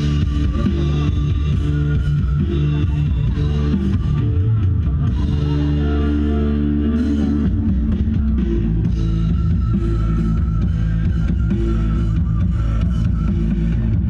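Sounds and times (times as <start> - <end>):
rock music with heavy bass: 0.0 - 14.0.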